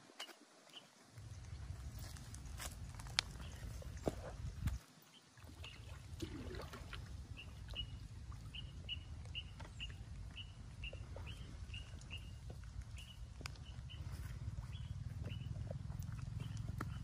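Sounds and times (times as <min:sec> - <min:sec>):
steady low rumble: 0:01.1 - 0:04.8, 0:05.8 - 0:17.0.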